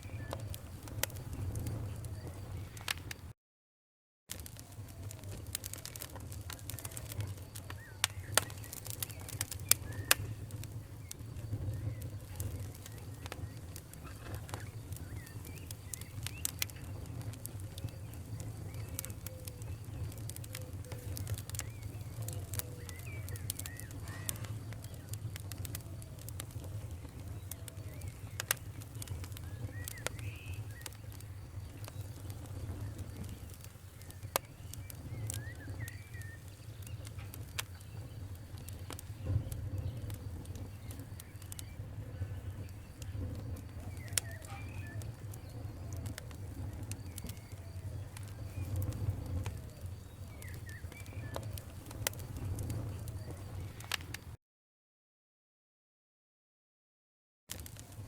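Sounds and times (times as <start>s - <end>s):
wood fire crackling: 0.0s - 3.4s, 4.3s - 54.4s, 57.5s - 58.0s
sharp pops and snaps: 4.3s - 41.8s, 42.6s - 54.3s, 57.5s - 58.0s.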